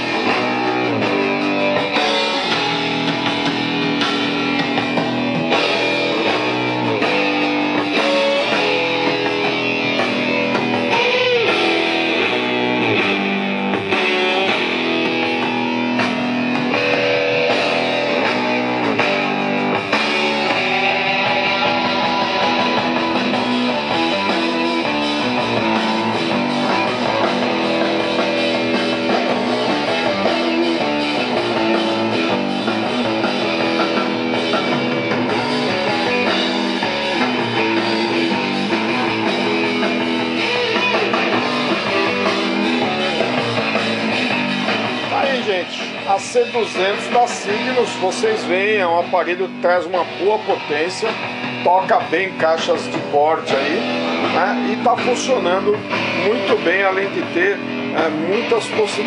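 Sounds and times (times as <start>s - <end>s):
guitar rock music from loudspeakers: 0.0s - 59.0s.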